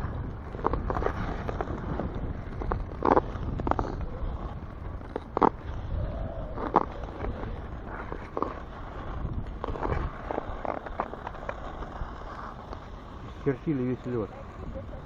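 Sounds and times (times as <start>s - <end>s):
ice skate blades scraping ice: 0.0s - 15.0s
wind rumble on microphone: 0.0s - 15.0s.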